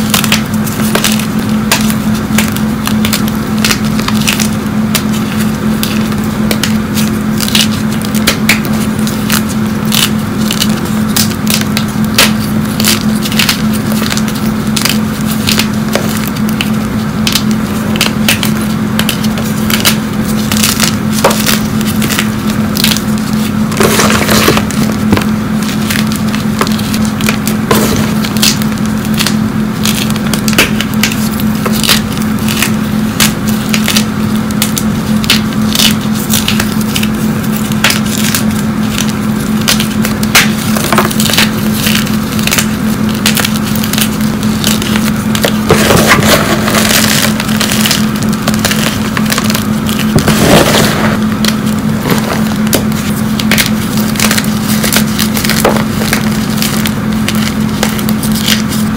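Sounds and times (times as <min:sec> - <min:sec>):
chalk crunching and cracking: 0:00.0 - 0:58.9
steady low hum: 0:00.0 - 0:58.9.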